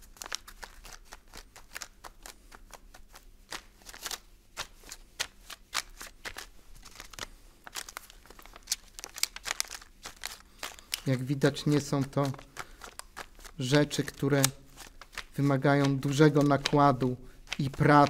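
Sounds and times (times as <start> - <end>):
paper stencil rustling: 0.0 - 18.0.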